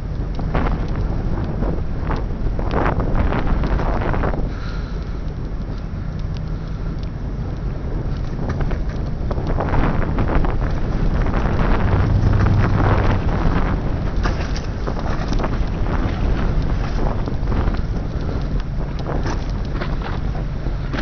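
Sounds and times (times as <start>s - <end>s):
low hum: 0.0s - 21.0s
low rumble of ship: 0.0s - 21.0s
wind buffeting microphone: 0.0s - 21.0s.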